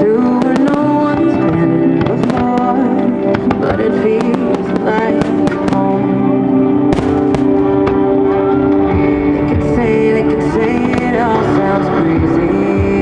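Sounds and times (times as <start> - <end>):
firework bangs and crackles: 0.0 - 13.0
music: 0.0 - 13.0.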